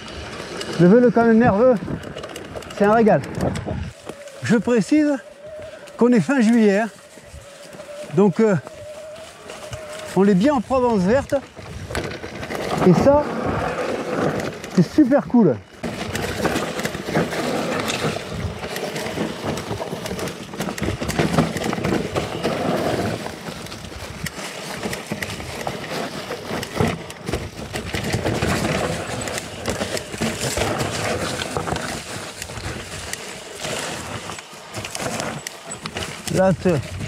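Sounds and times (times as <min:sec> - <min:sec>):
bike knocking and rattling: 0:00.0 - 0:37.0
bike tyres crunching leaves and stones: 0:00.0 - 0:37.0.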